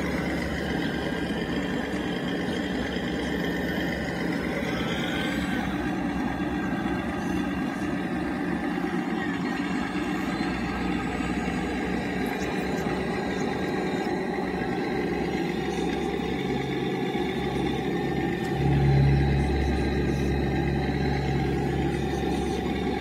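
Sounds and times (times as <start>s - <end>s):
low steady hum: 0.0s - 23.0s
model excavator pump and motor: 0.0s - 23.0s.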